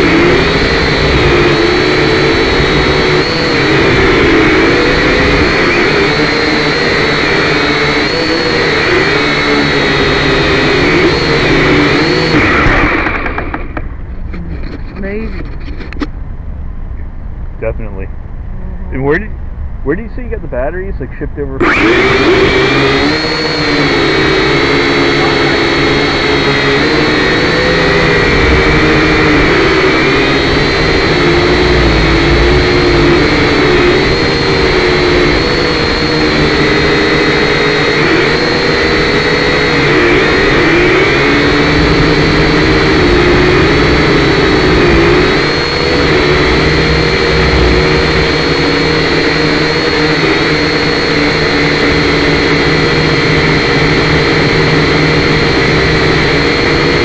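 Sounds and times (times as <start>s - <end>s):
drone motors whining: 0.0s - 16.1s, 16.9s - 57.0s.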